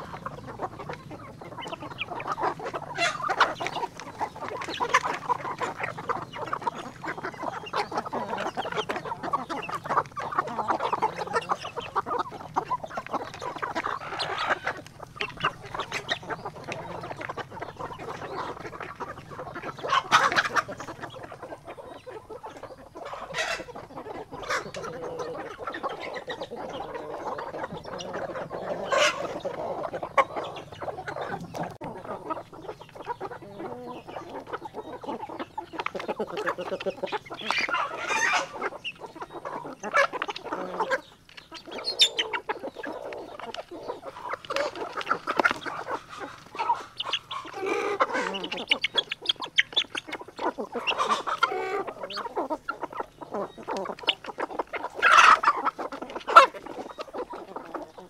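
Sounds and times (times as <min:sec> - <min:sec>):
beaks pecking at grain: 0:00.0 - 0:58.0
chickens clucking: 0:00.0 - 0:58.0
sharp chicken calls: 0:00.0 - 0:58.0.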